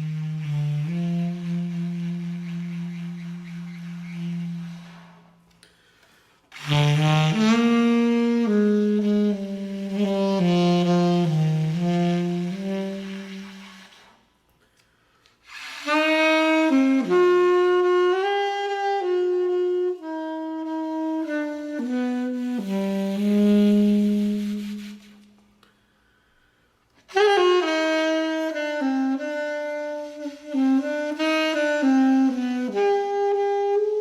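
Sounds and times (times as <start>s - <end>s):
solo saxophone melody: 0.0s - 14.4s, 15.4s - 26.3s, 27.0s - 34.0s.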